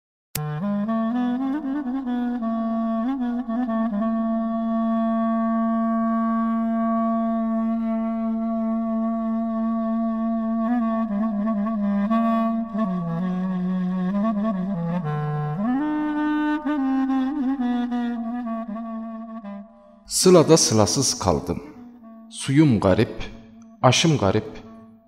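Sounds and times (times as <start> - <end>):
solo wind instrument melody: 0.4 - 25.0.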